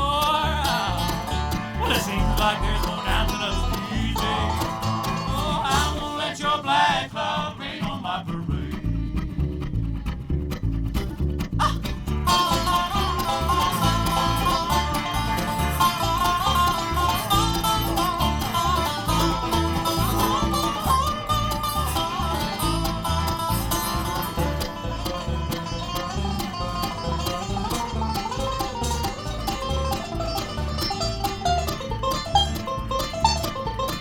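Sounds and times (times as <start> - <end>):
bass beat: 0.0 - 6.2, 8.4 - 34.0
bluegrass band playing: 0.0 - 34.0
plucked string picking: 0.0 - 34.0.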